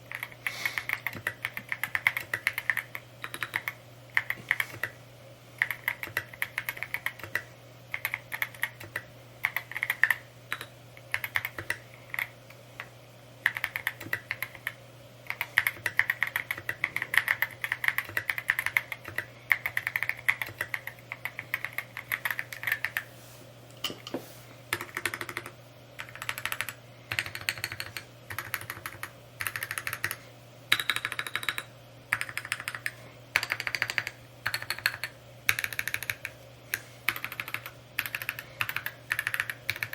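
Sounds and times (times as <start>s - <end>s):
faint steady hum: 0.0s - 39.9s
mechanical keyboard typing: 0.1s - 5.0s, 5.6s - 12.3s, 13.4s - 23.0s, 24.7s - 39.9s.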